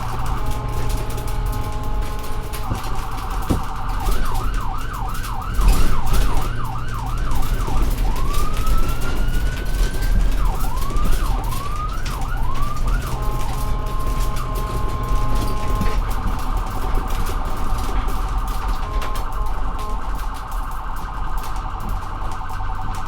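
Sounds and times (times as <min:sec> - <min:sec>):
ambulance siren: 0:00.0 - 0:23.0
vehicle driving rumble: 0:00.0 - 0:23.0.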